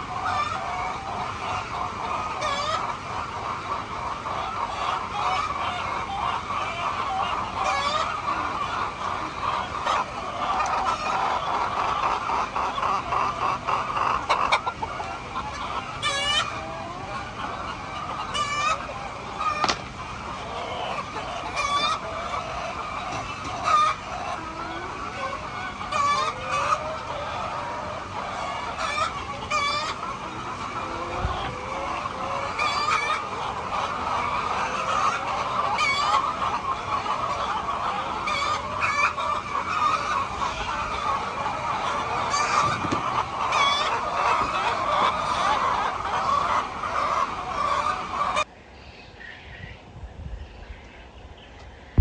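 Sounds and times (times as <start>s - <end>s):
flock of chickens calling: 0.0s - 52.0s.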